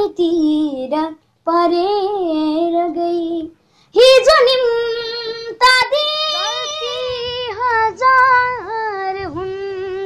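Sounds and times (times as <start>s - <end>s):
boy singing unaccompanied: 0.0s - 10.0s.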